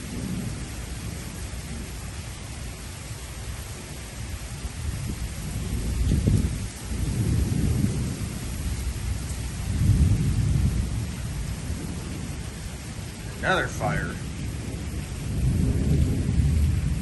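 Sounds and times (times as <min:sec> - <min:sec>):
rolling thunder: 0:00.0 - 0:02.0, 0:04.6 - 0:17.0
heavy rain: 0:00.0 - 0:17.0.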